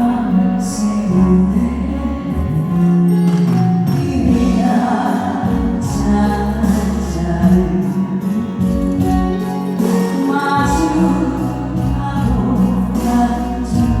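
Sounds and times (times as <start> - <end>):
woman singing a slow ballad: 0.0 - 14.0
band accompaniment: 1.1 - 14.0.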